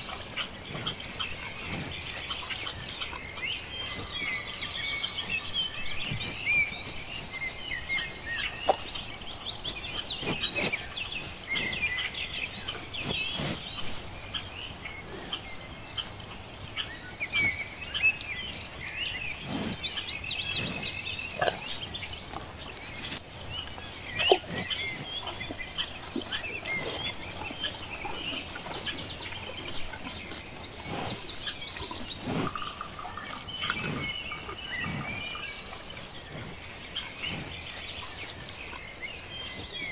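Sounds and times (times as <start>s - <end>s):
sharp bird calls: 0.0s - 39.9s
small birds chirping: 0.0s - 39.9s.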